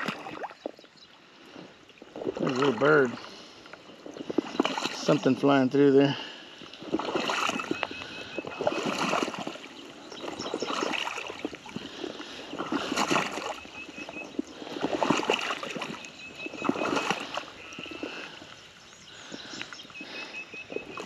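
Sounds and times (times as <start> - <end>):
footsteps wading through water: 0.0 - 21.0
water sloshing and grass swishing: 0.0 - 21.0.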